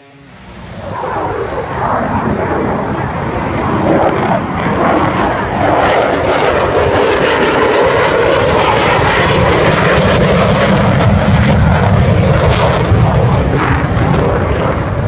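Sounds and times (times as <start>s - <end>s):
jet engine low pass: 0.0s - 15.0s.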